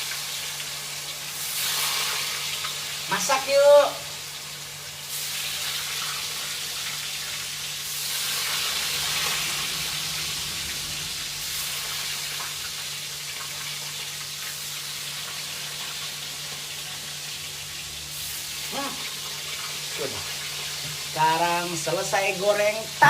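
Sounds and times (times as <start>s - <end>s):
tofu sizzling in hot oil: 0.0s - 23.0s.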